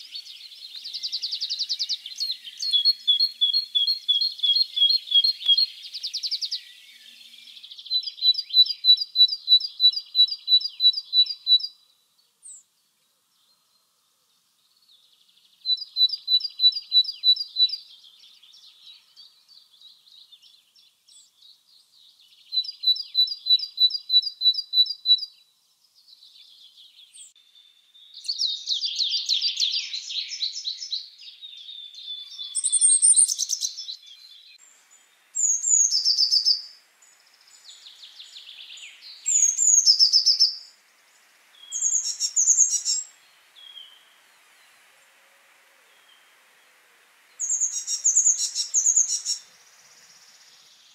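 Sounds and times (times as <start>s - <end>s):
great tit singing: 0.0s - 12.6s, 15.5s - 25.4s, 26.4s - 44.9s, 47.4s - 50.9s.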